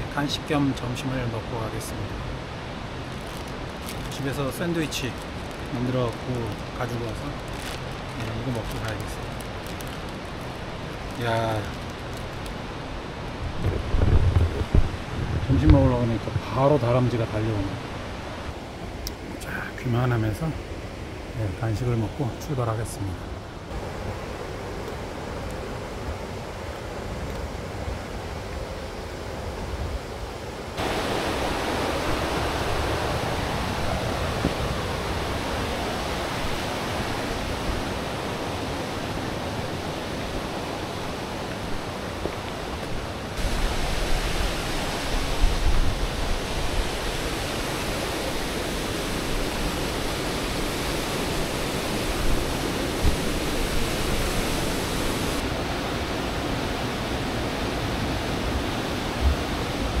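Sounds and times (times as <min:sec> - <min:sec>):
stream and waterfall rushing: 0:00.0 - 1:00.0.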